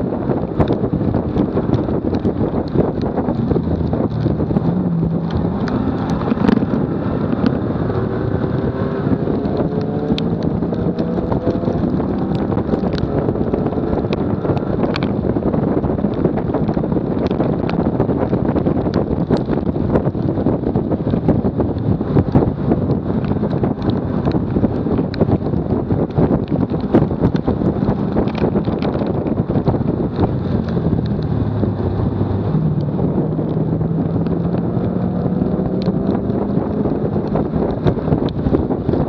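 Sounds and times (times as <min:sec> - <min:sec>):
car engine: 0:00.0 - 0:39.0
tyre noise on tarmac: 0:00.0 - 0:39.0
wind buffeting microphone: 0:00.0 - 0:39.0.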